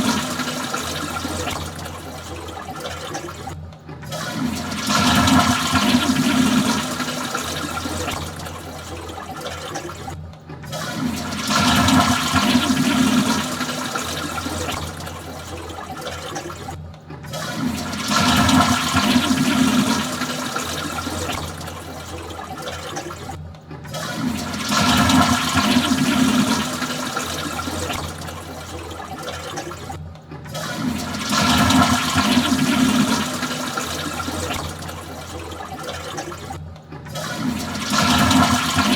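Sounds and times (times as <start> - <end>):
toilet flushing: 0.0 - 38.9.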